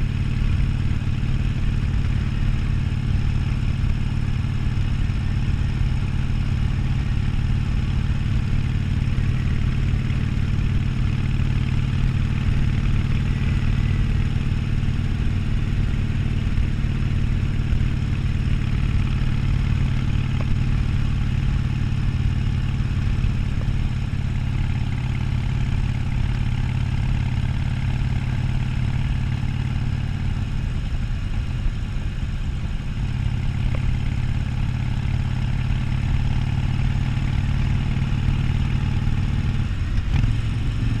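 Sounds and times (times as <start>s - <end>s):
motorcycle engine cruising: 0.0s - 41.0s.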